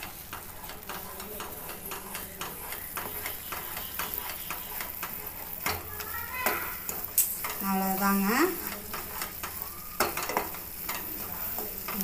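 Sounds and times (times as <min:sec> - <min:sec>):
wooden spatula scraping a pan: 0:00.0 - 0:12.0.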